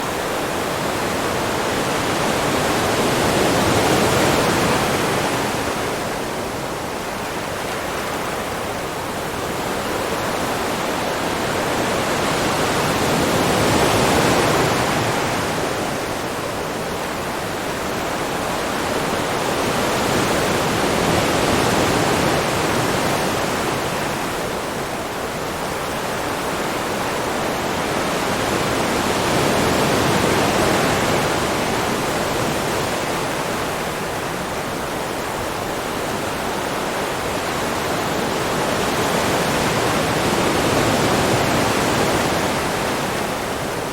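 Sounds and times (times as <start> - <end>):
ocean waves surf: 0.0 - 43.9.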